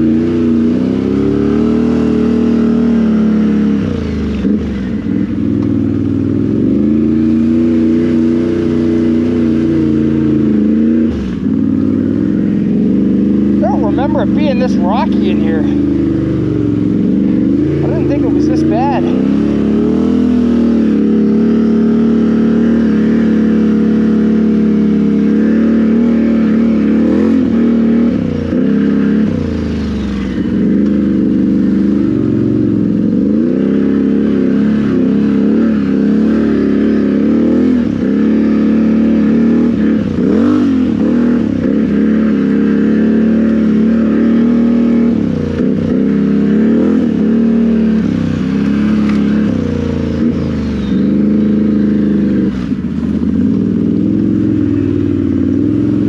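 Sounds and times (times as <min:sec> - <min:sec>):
loud v-twin engine revving: 0:00.0 - 0:56.0.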